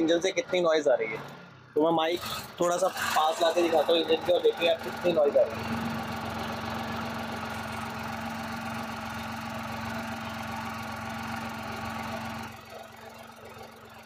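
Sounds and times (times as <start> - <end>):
car engine idling: 2.3 - 14.0.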